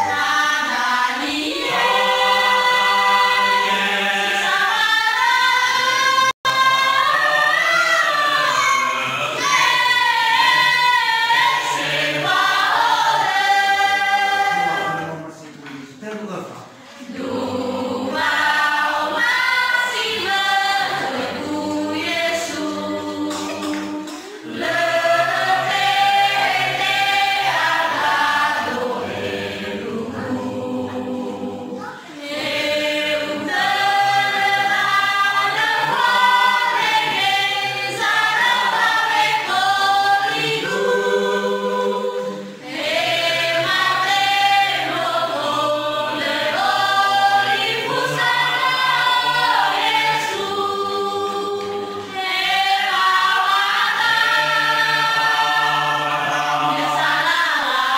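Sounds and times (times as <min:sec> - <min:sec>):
choir singing a hymn: 0:00.0 - 0:15.5, 0:16.8 - 0:57.9.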